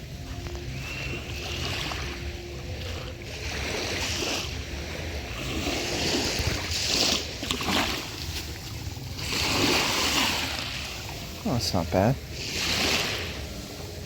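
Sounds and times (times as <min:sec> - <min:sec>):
small waves washing ashore: 0:00.0 - 0:14.0.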